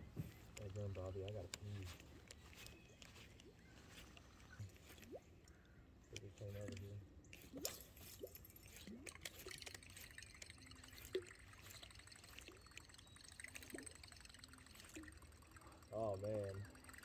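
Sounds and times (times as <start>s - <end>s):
soft water plops: 0.2s - 17.0s
water drips and trickles: 0.2s - 17.0s.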